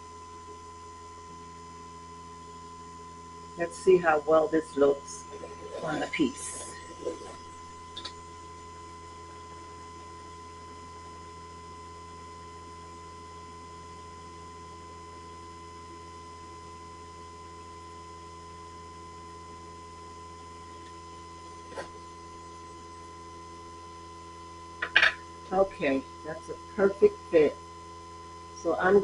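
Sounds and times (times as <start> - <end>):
electrical hum with high whine: 0.0 - 29.0.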